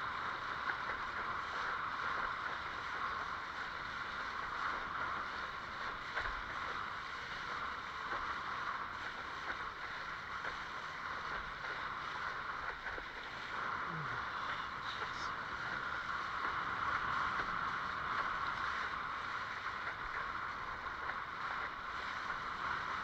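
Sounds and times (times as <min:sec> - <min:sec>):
water rushing along a hull: 0:00.0 - 0:23.0.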